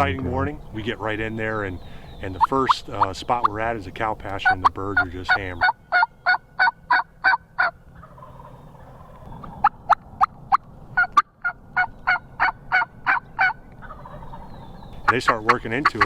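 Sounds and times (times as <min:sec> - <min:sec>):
turkey yelping: 0:00.6 - 0:16.0.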